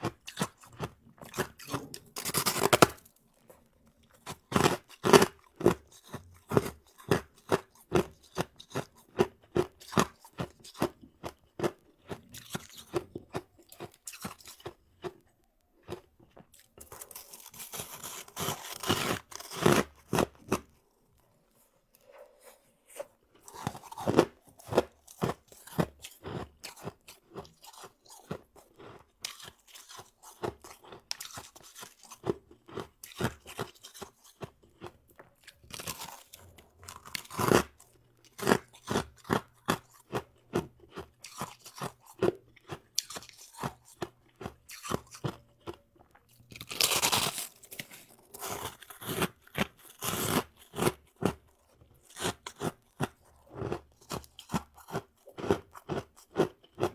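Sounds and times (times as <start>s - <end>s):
chewing ice crunches: 0.0s - 56.9s.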